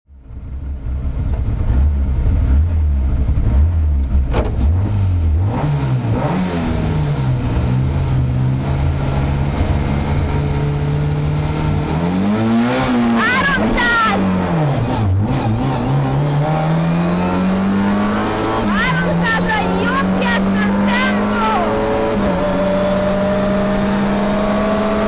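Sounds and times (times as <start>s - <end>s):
car engine idling and revving: 0.1s - 25.0s.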